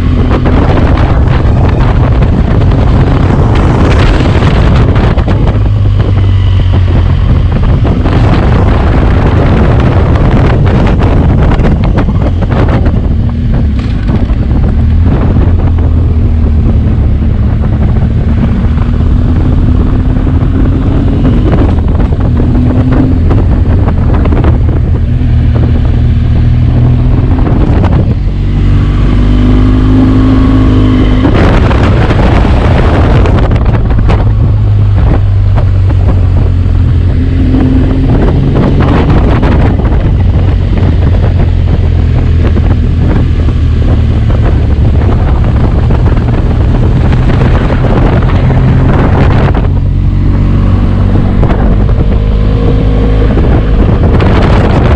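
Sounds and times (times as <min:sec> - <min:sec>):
motorcycle engine running: 0:00.0 - 0:54.9
wind buffeting microphone: 0:00.0 - 0:54.9.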